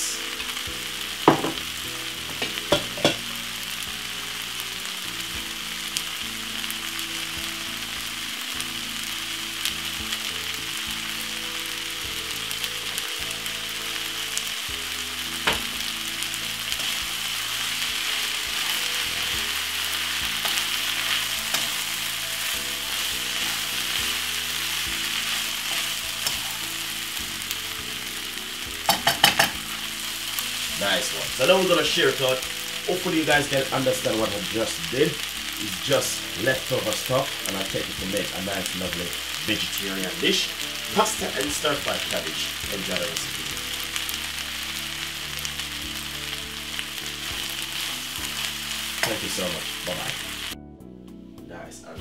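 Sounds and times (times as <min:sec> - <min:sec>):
food sizzling in a wok: 0:00.0 - 0:50.6.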